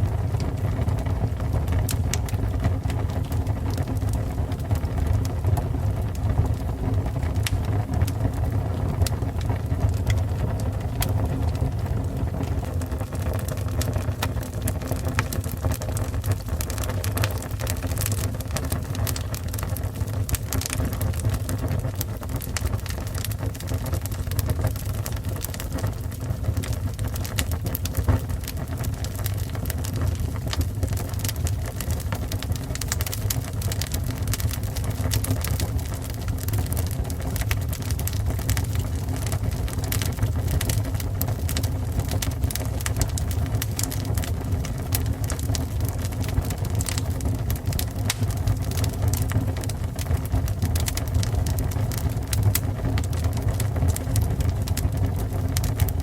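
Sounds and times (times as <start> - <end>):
fire crackling and roaring: 0.0 - 56.0.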